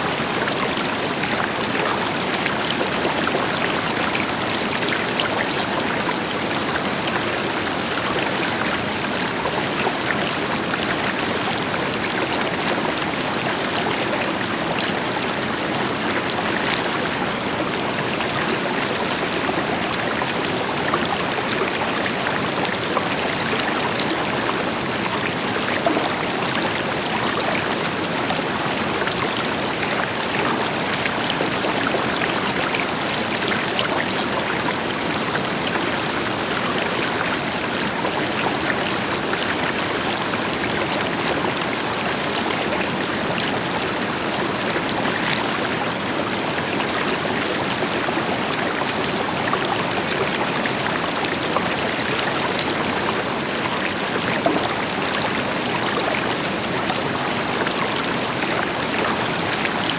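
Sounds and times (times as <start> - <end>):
river flowing over rocks: 0.1 - 59.9.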